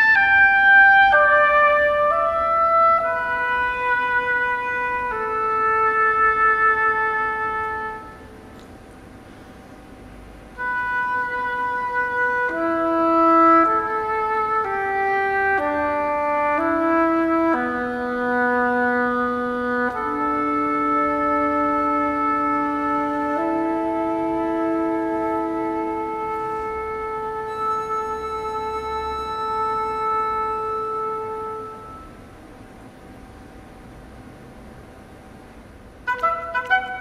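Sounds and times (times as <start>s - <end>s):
flute: 0.0s - 8.6s, 10.5s - 32.3s, 36.1s - 37.0s
oboe: 0.0s - 8.7s, 10.5s - 32.3s, 36.1s - 37.0s.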